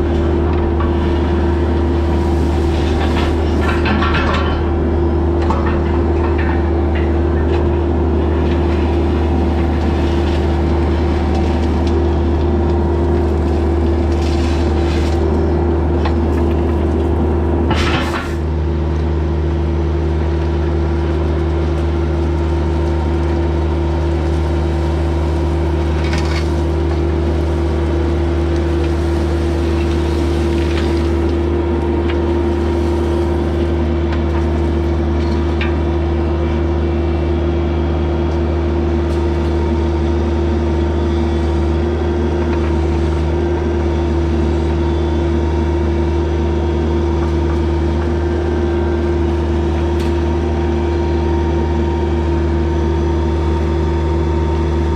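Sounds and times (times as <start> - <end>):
diesel excavator engine running: 0.0 - 54.9.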